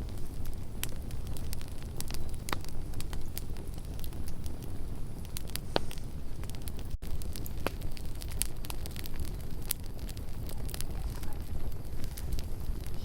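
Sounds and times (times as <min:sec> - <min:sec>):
campfire low rumble: 0:00.0 - 0:13.0
crackles and pops of burning wood: 0:00.0 - 0:13.0.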